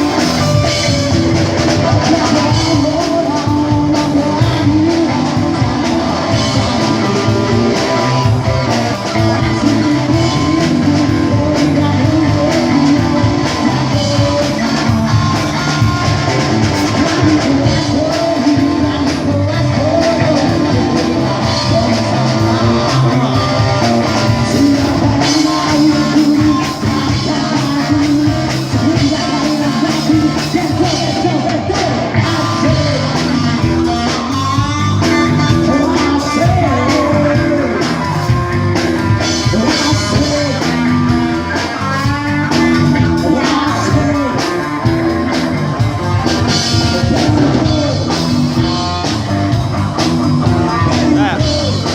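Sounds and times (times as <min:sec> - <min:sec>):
person singing: 0:00.0 - 0:51.9
rock band with guitar: 0:00.0 - 0:51.9.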